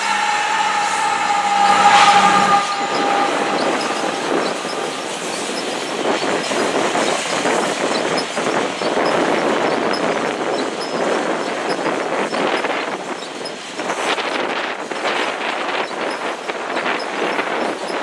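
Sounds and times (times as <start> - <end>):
locomotive high whine: 0.0 - 17.6
train wheels clacking over rail joints: 2.5 - 18.0.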